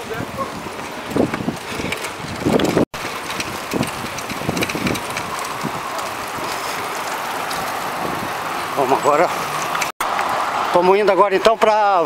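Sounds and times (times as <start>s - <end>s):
bicycle clicks and rattles: 0.0s - 10.4s
wind rushing over microphone: 0.0s - 10.7s.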